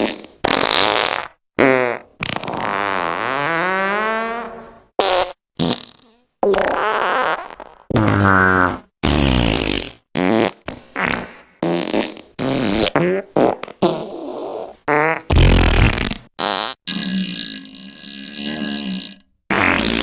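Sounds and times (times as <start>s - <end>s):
fart sounds: 0.0s - 20.0s.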